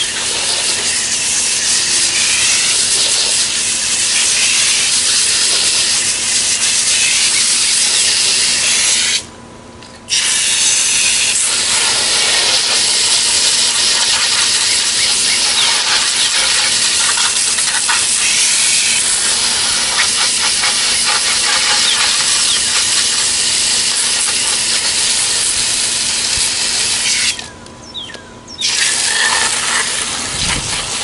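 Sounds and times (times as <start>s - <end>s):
garden hose spraying water: 0.0s - 9.3s, 10.1s - 27.5s, 28.6s - 31.0s.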